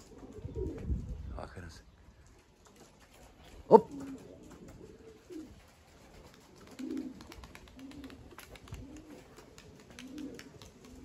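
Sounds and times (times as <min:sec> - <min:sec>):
pigeons cooing: 0:00.0 - 0:01.0, 0:02.3 - 0:11.0.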